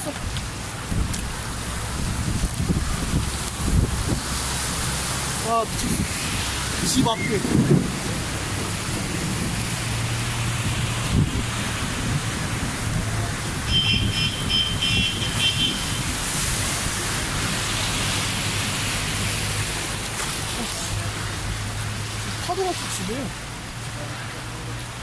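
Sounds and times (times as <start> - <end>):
rain: 0.0 - 25.0
vehicles driving through floodwater: 0.0 - 25.0.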